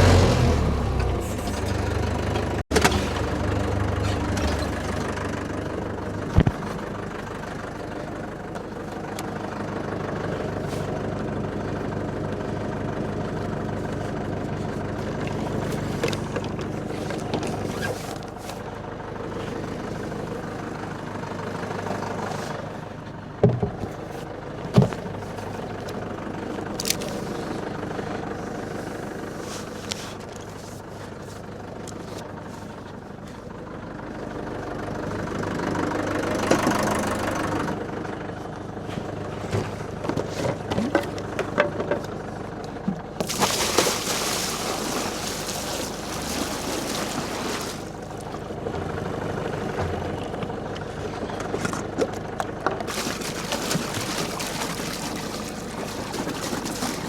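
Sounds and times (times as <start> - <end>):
tractor engine idling: 0.0 - 43.3, 44.5 - 57.0.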